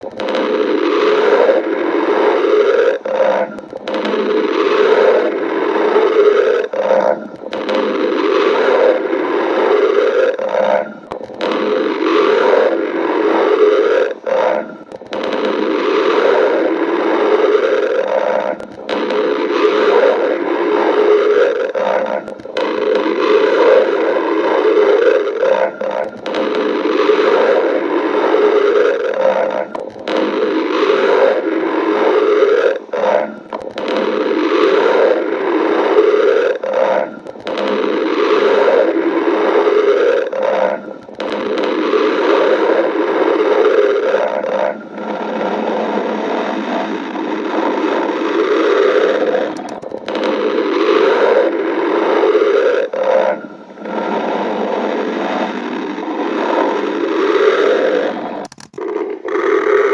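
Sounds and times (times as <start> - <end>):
animal stomach gurgling: 0.0 - 59.9.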